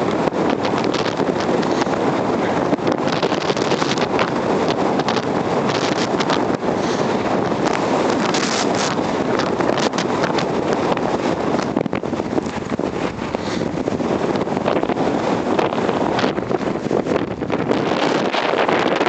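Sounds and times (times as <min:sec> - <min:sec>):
blizzard wind buffeting microphone: 0:00.0 - 0:19.0.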